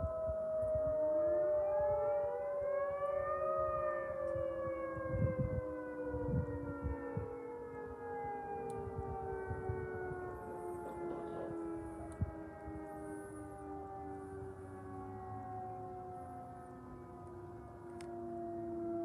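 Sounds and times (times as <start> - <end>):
siren rising and falling: 0.0 - 19.0.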